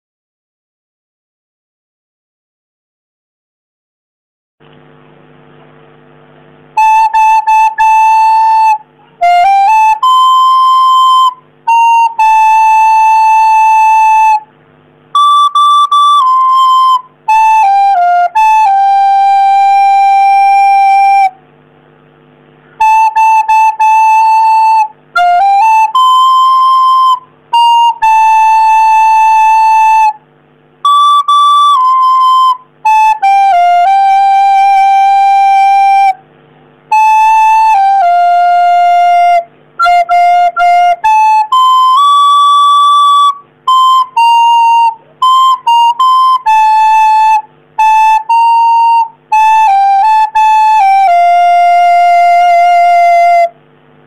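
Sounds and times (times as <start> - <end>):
recorder melody: 4.6 - 54.0.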